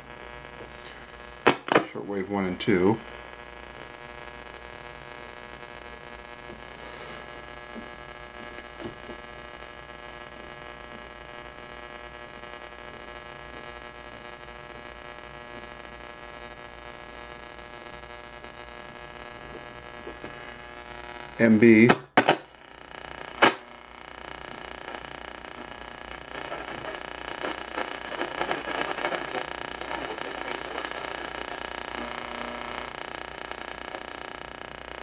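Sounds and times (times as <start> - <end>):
constant buzzing hum: 0.0 - 35.0
radio static hiss: 0.0 - 35.0.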